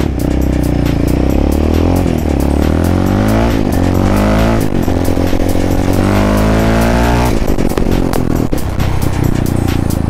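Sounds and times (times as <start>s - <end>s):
background music with beat: 0.0s - 10.0s
quad bike engine accelerating: 0.0s - 10.0s.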